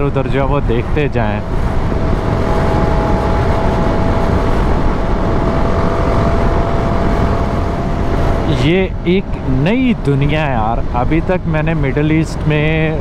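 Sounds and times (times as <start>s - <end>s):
faint steady whine: 0.0s - 13.0s
motorcycle engine and road noise: 0.0s - 13.0s
wind noise: 0.0s - 13.0s.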